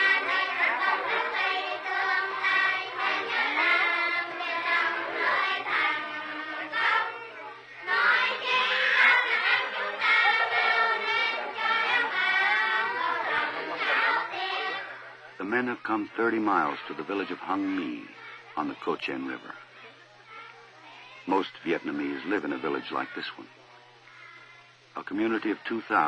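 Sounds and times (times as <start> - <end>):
crowd of children's voices: 0.0 - 26.0.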